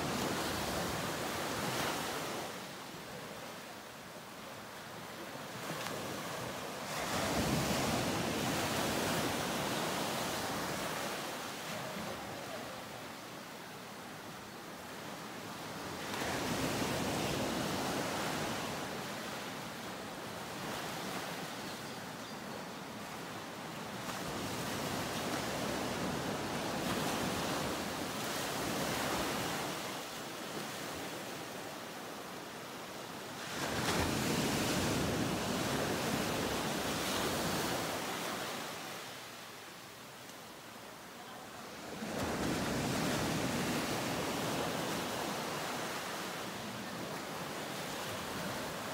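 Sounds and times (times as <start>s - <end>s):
ocean waves washing onto shore: 0.0s - 48.9s.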